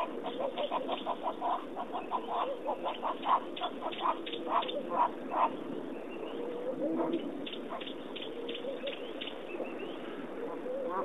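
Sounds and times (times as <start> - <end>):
low steady murmur: 0.0 - 11.0.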